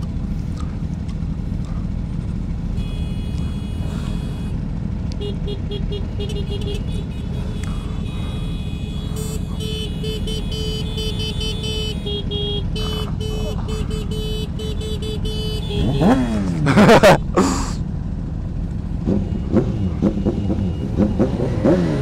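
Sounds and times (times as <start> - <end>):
motorcycle engines rumbling: 0.0 - 22.0
wind: 0.0 - 22.0
vehicle horns tooting: 2.7 - 17.2, 18.9 - 22.0.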